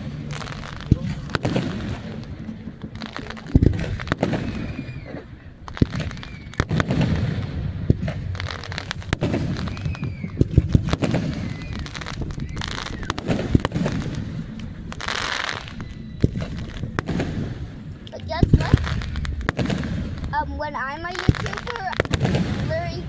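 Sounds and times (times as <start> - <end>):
continuous low rumble: 0.0 - 23.0
fireworks bangs and booms: 0.0 - 23.0
fireworks hissing: 0.0 - 23.0.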